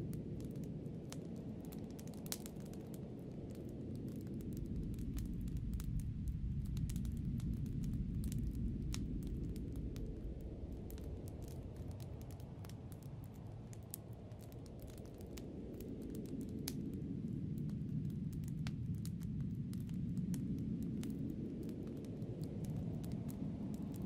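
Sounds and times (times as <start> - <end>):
low wind rumble: 0.0 - 24.0
wood fire crackling: 0.0 - 24.0.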